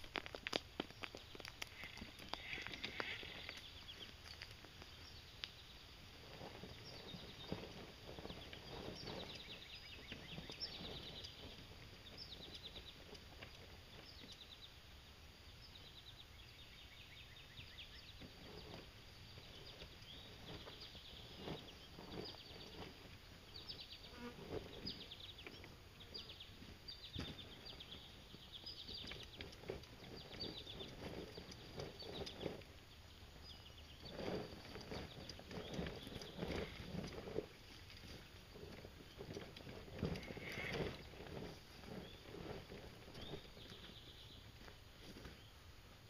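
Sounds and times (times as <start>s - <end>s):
insects trilling: 0.0s - 44.8s.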